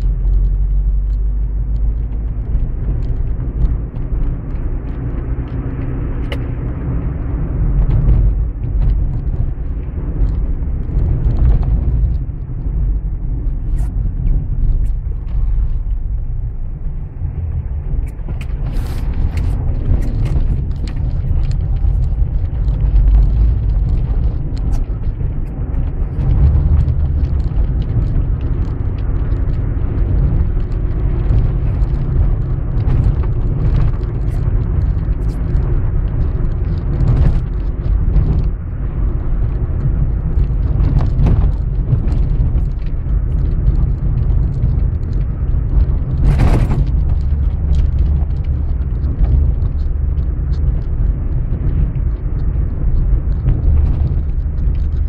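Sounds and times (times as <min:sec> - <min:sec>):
car engine and tyre rumble: 0:00.0 - 0:55.0
car knocks and rattles: 0:00.7 - 0:55.0.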